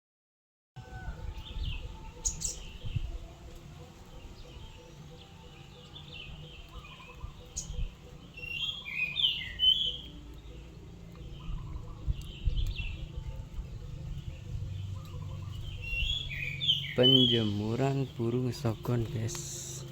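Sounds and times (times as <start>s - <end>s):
songbird chirping: 0.8s - 19.9s.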